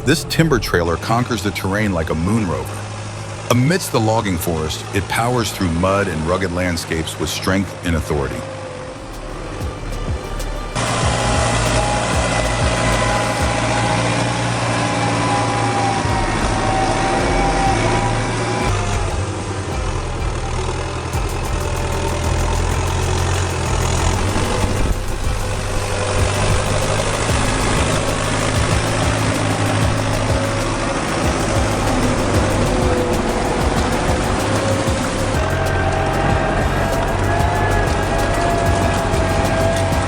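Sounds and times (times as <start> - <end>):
heavy vehicle engine running: 0.0 - 6.3, 8.6 - 40.0
wavering high whine: 0.0 - 40.0.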